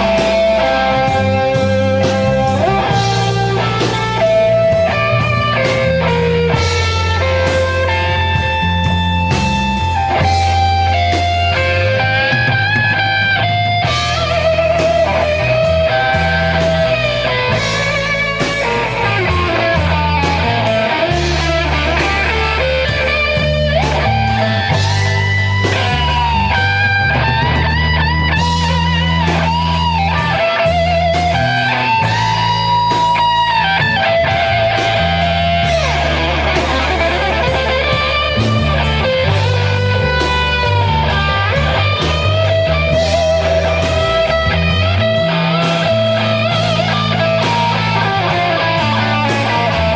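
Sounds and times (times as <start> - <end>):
electric guitar: 0.0 - 49.9
live rock band: 0.0 - 49.9.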